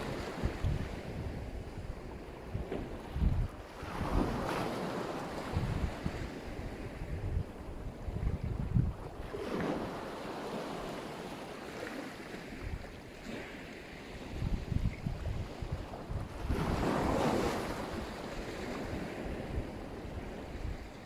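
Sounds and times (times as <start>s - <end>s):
wind buffeting microphone: 0.0s - 10.8s, 12.4s - 21.0s
waves washing onto shore: 0.0s - 21.0s.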